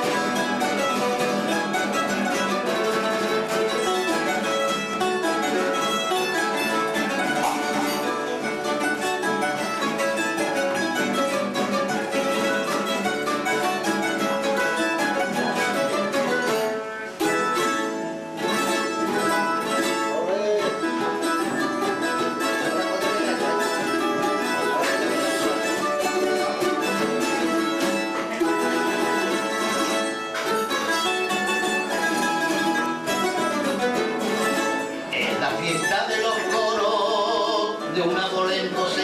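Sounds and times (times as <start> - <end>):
plucked string trio playing: 0.0 - 39.0.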